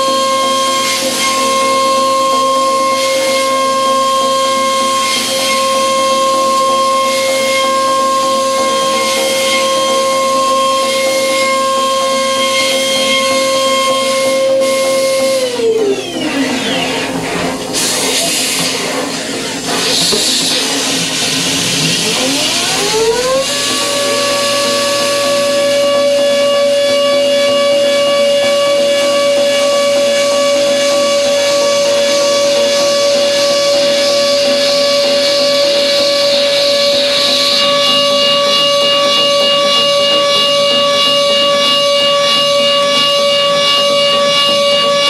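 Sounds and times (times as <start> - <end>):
milling spindle whine: 0.0 - 45.0.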